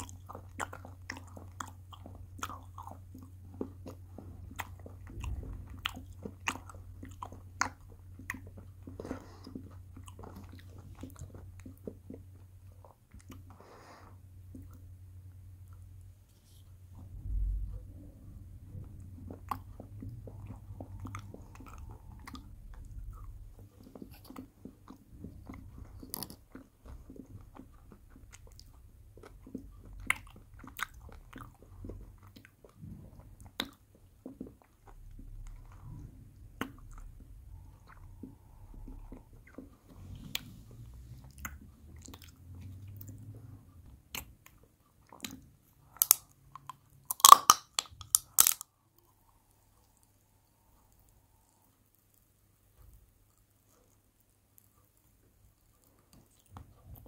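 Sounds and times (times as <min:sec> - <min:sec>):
chewing and crunching candy: 0:00.0 - 0:57.0.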